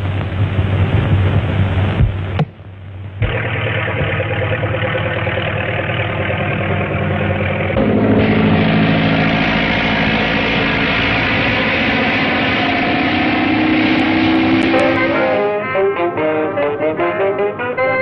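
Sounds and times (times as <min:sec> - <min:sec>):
propeller airplane engine droning: 0:00.0 - 0:18.0.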